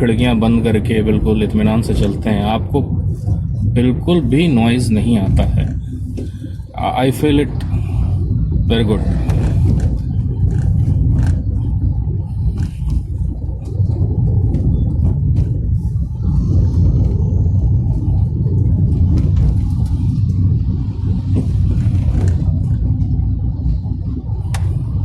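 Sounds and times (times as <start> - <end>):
car cabin tyre and engine rumble: 0.0 - 25.0.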